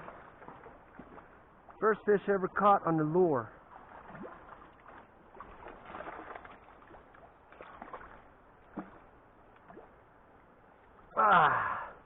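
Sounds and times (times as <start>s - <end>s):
river water splashing: 0.0s - 11.9s.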